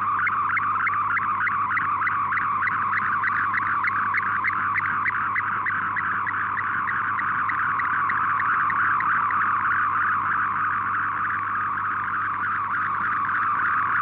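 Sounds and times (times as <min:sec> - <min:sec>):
pulsing digital data tones: 0:00.0 - 0:14.0.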